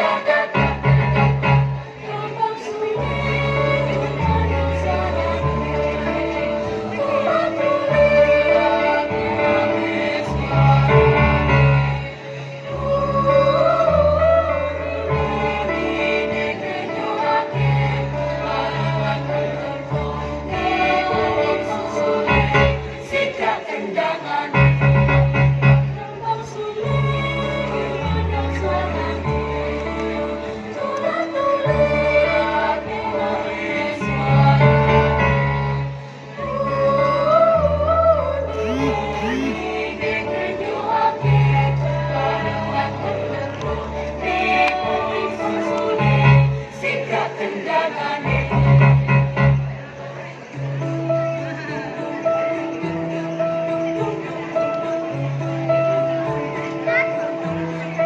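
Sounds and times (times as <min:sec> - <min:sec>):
choir singing in parts: 0:00.0 - 0:49.5.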